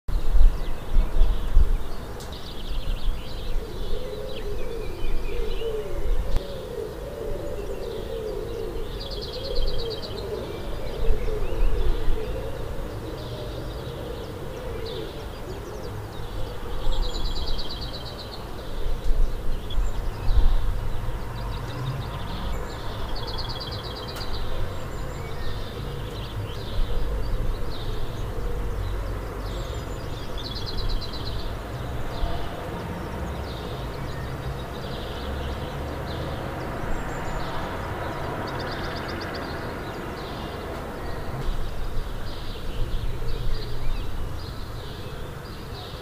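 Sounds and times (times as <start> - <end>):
birds chirping and trilling: 0.1 - 46.0.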